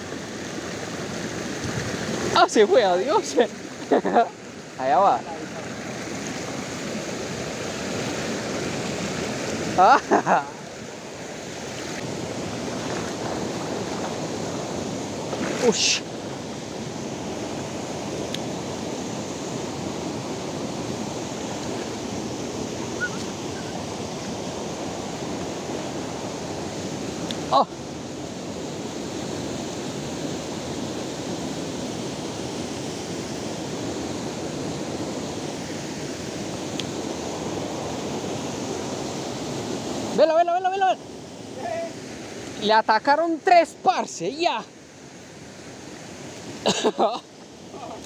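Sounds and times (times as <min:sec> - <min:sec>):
stream rushing over stones: 0:00.0 - 0:48.0.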